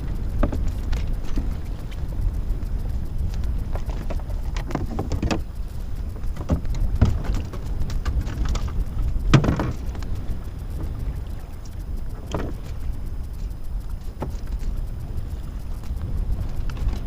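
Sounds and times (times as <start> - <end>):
water splashing against kayak hull: 0.0 - 17.0
wind rumble on microphone: 0.0 - 17.0.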